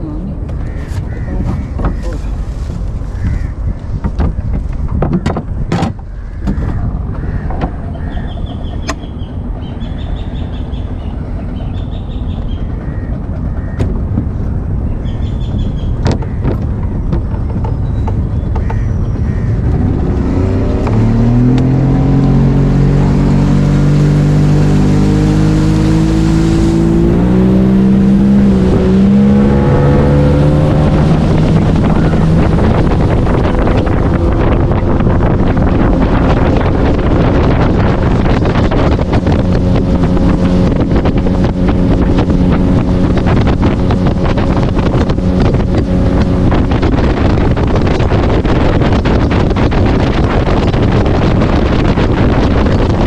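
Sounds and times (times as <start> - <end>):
boat engine humming: 0.0 - 53.0
constant rumble: 0.0 - 53.0.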